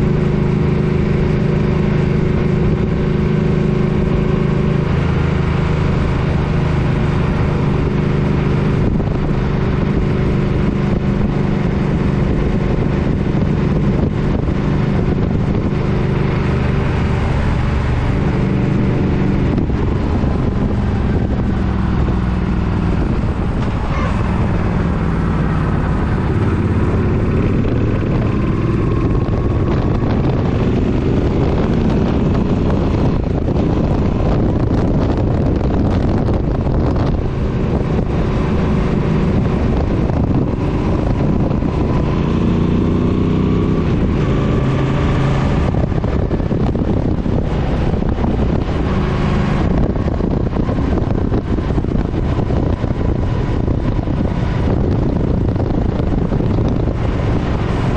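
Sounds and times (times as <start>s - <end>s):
motorcycle engine running: 0.0s - 57.9s
wind noise on microphone: 0.0s - 57.9s.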